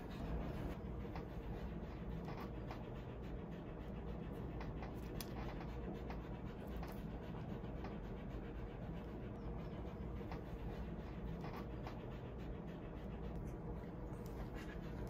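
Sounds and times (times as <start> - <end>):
dog panting: 0.0 - 15.0
low room hum: 0.0 - 15.0.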